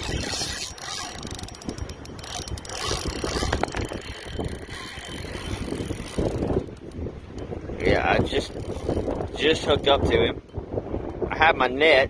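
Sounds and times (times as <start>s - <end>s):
fishing reel clicking and whirring: 0.0s - 10.1s
wind rumbling on microphone: 0.0s - 12.0s.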